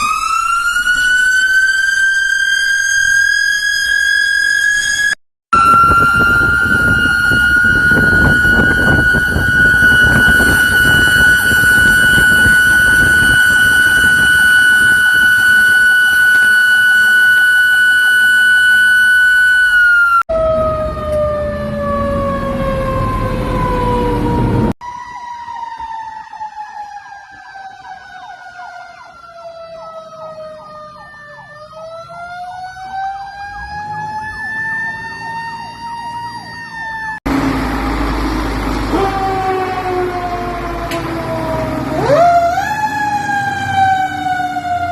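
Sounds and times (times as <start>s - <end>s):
fire truck siren wailing: 0.0s - 44.9s.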